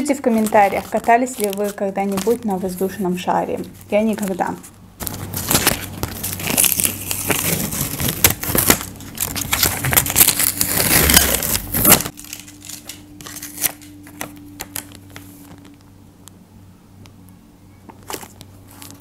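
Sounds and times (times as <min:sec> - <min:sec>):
paper crinkling and rustling: 0:00.0 - 0:15.8, 0:17.9 - 0:19.0.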